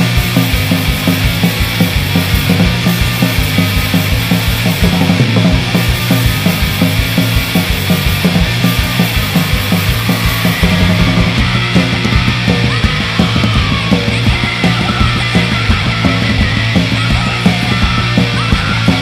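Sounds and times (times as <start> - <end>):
fast drum beat: 0.0 - 19.0
hardcore punk band playing: 0.0 - 19.0.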